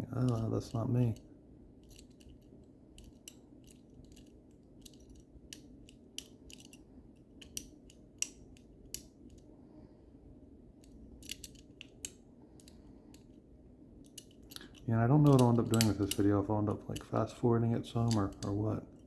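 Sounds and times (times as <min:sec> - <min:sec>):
lock picks clicking and scraping: 0:00.0 - 0:09.5, 0:10.8 - 0:13.4, 0:14.0 - 0:17.3, 0:17.9 - 0:19.0.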